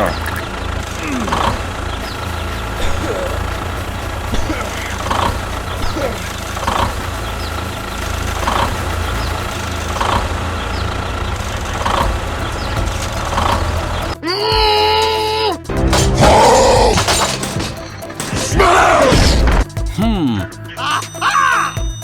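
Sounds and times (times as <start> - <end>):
small tractor engine running: 0.0 - 14.7, 15.6 - 20.8.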